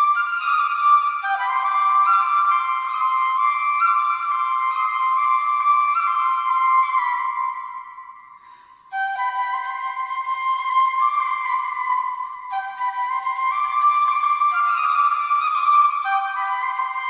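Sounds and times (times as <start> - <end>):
bamboo flute melody: 0.0 - 17.0.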